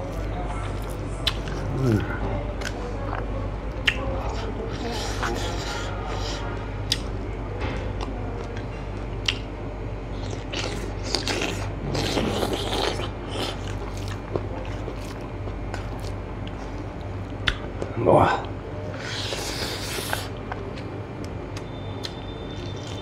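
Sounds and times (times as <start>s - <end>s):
person chewing with wet smacks: 0.0s - 7.2s, 7.8s - 23.0s
steady low hum: 0.0s - 23.0s.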